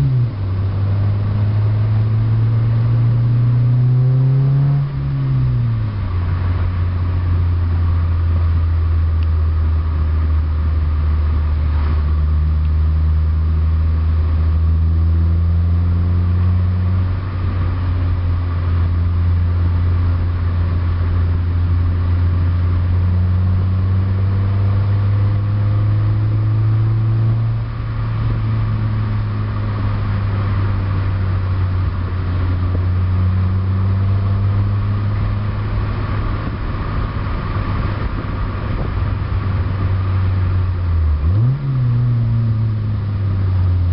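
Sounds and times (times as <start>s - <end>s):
car exhaust drone: 0.0s - 43.9s.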